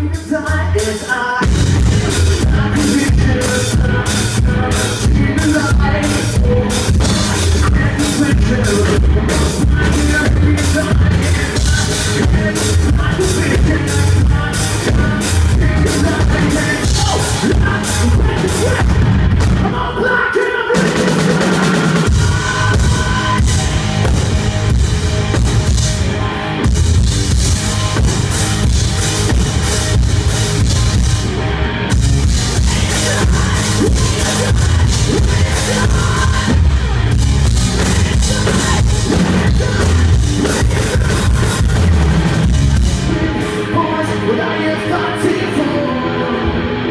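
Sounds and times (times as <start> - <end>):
rock band playing live: 0.0 - 46.9.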